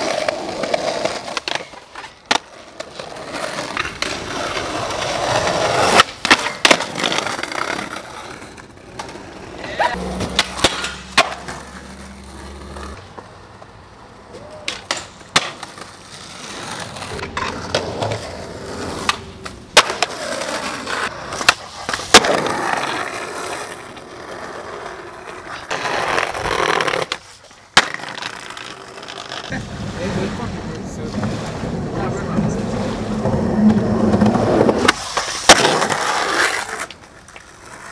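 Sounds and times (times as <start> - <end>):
skateboard clacking: 0.0 - 29.5, 31.0 - 37.9
skateboard wheels rolling: 0.0 - 37.9.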